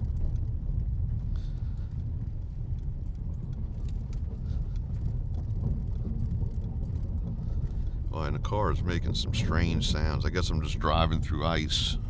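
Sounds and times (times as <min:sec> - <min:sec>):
car tyres rumbling on ice: 0:00.0 - 0:12.0
crunching and ticking: 0:00.0 - 0:12.0.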